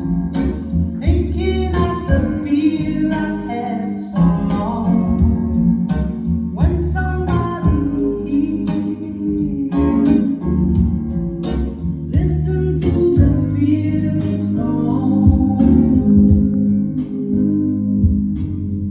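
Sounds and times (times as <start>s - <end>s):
music with singing and guitar: 0.0s - 18.9s.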